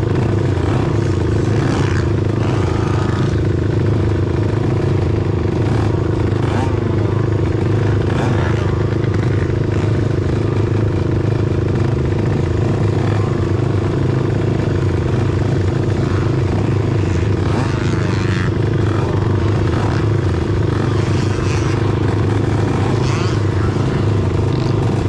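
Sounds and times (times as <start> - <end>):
quad engine idling: 0.0 - 25.0.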